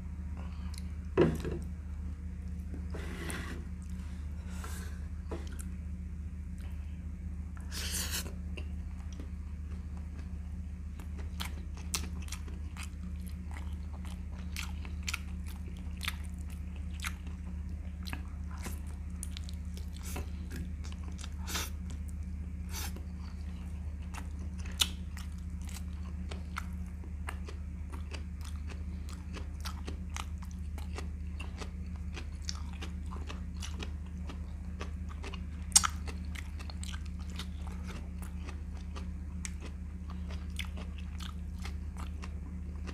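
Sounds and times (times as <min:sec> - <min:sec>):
low hum: 0:00.0 - 0:42.9.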